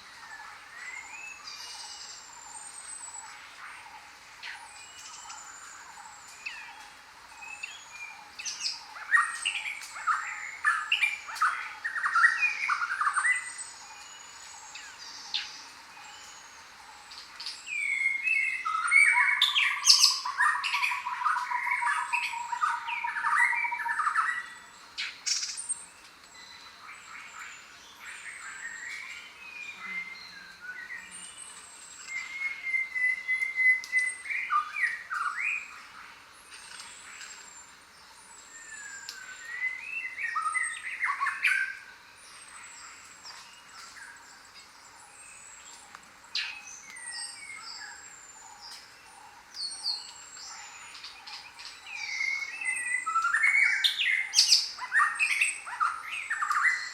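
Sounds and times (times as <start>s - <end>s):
birds chirping and squawking: 7.6s - 25.9s, 26.6s - 56.9s.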